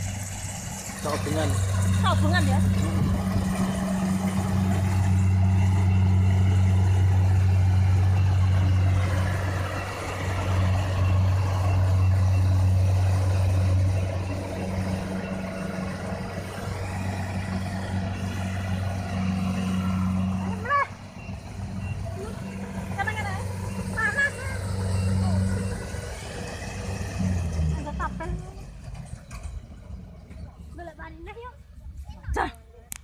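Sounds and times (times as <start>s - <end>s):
combine harvester engine hum: 0.0s - 33.0s.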